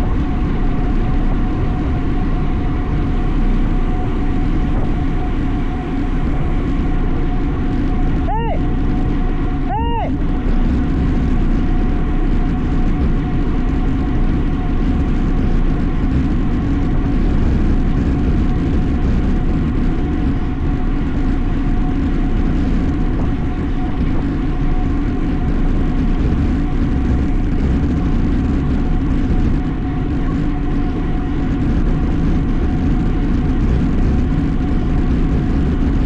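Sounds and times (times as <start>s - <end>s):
faint steady hum: 0.0s - 36.0s
tyres rumbling on road: 0.0s - 36.0s
wind rushing over microphone: 0.0s - 36.0s.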